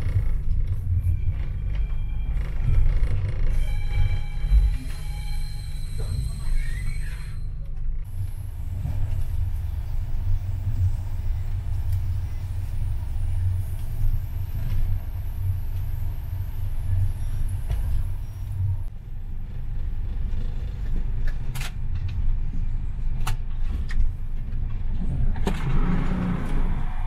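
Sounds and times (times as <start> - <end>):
train carriage rumbling on track: 0.0 - 27.0.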